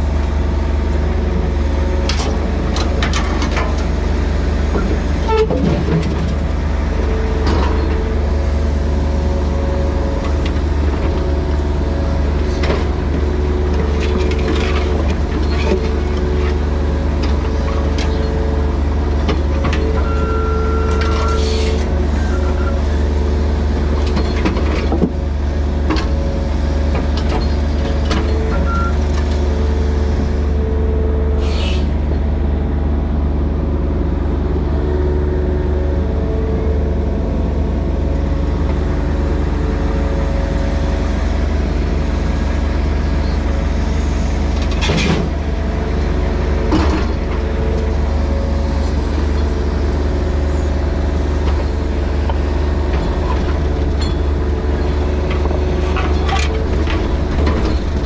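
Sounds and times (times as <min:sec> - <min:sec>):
diesel engine under hydraulic load: 0:00.0 - 0:58.0.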